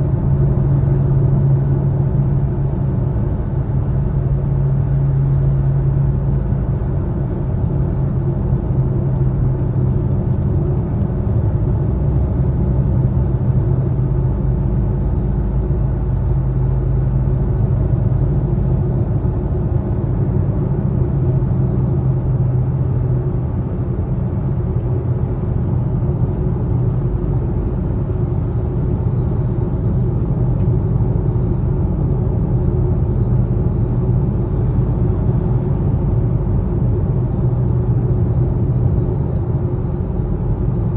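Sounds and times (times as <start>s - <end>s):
low droning hum in car cabin: 0.0s - 40.9s
road rumble: 0.0s - 40.9s.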